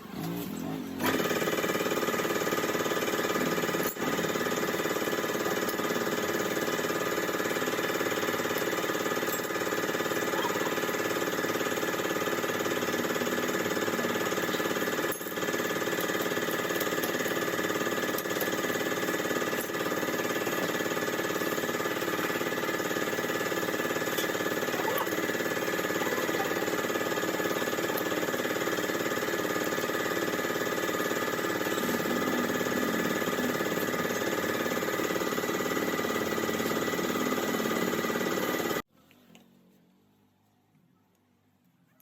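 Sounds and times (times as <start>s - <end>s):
engine humming steadily: 0.0s - 39.5s.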